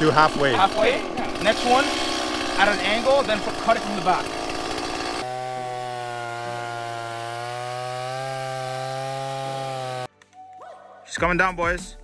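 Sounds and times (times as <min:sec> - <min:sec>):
chainsaw cutting wood: 0:00.0 - 0:10.1.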